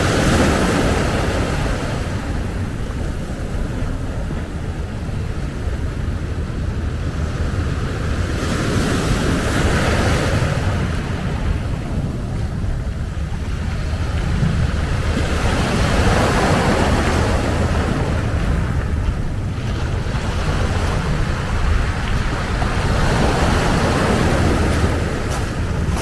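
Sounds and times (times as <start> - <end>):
surf washing onto a beach: 0.0 - 26.0
wind buffeting the microphone: 0.0 - 26.0.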